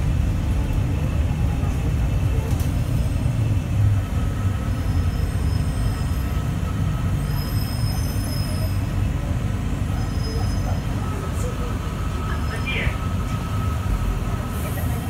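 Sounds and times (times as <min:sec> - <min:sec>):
light-rail car rumbling: 0:00.0 - 0:15.0.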